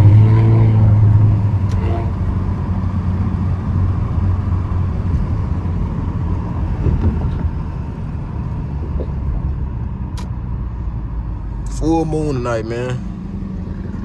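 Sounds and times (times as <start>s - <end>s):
car engine rumbling while driving: 0.0s - 14.0s.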